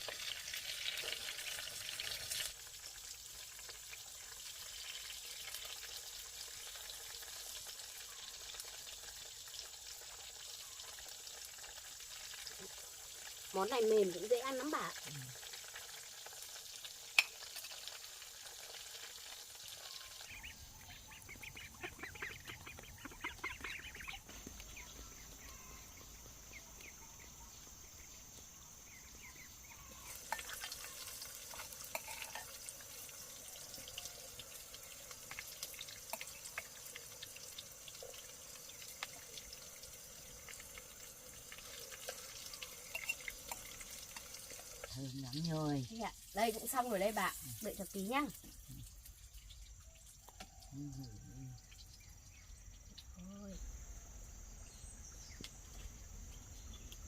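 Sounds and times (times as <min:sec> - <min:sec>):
food sizzling in hot oil: 0:00.0 - 0:53.2.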